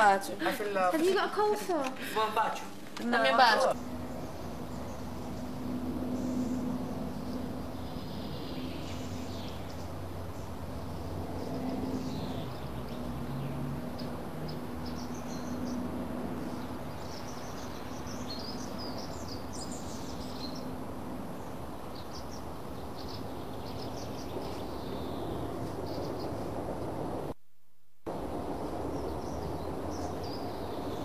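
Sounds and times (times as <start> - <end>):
birds chirping: 0.0 - 26.9, 28.4 - 31.0.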